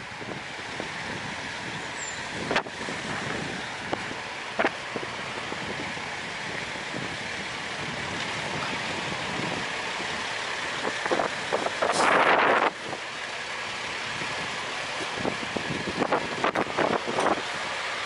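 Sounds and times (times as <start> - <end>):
wind buffeting microphone: 0.1 - 13.0, 14.0 - 17.6.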